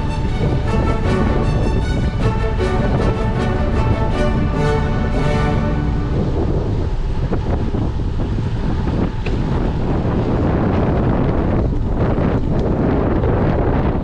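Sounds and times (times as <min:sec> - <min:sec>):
wind buffeting microphone: 0:00.0 - 0:04.9, 0:05.7 - 0:14.0.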